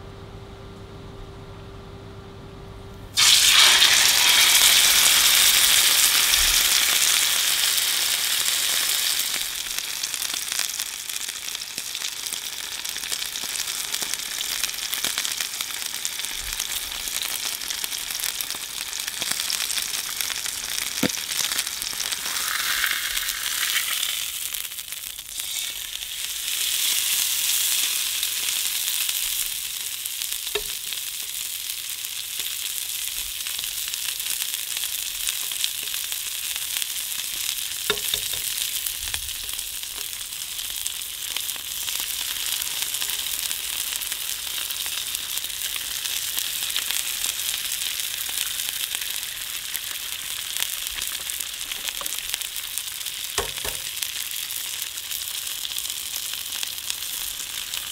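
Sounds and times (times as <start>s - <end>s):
steak sizzling in hot oil: 3.2s - 57.9s.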